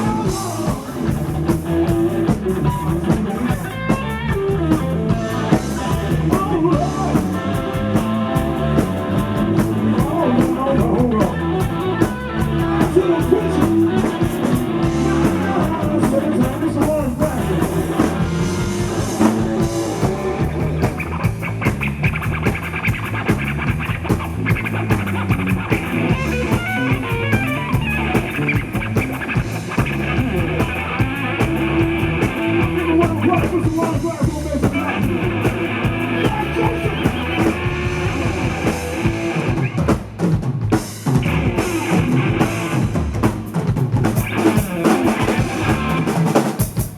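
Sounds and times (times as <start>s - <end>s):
drum kit beat: 0.0s - 46.9s
electric guitar: 0.0s - 46.9s.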